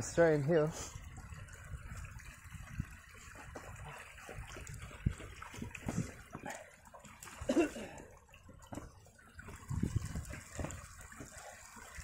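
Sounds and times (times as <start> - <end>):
creek water trickling over rocks: 0.0 - 12.0.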